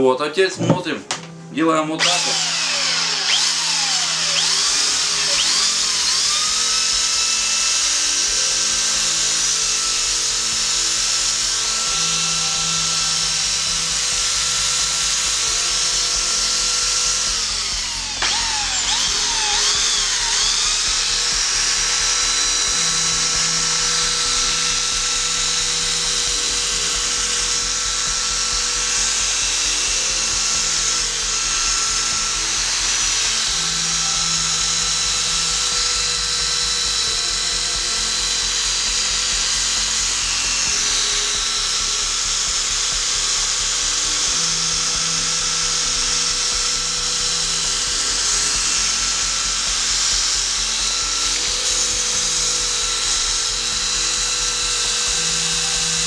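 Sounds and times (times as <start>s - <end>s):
background music: 0.0s - 56.0s
electric grinder whining: 0.6s - 56.0s.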